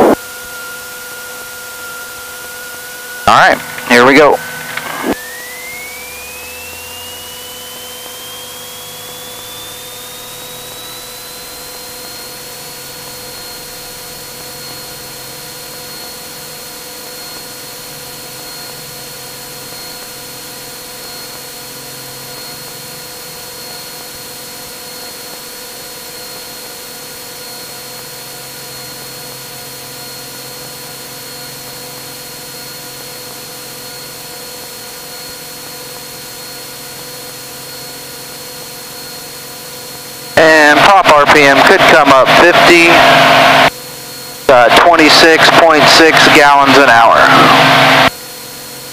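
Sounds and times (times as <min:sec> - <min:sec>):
rising engine whine: 0:00.0 - 0:25.3, 0:28.5 - 0:48.9
propeller plane engine drone: 0:00.0 - 0:48.9.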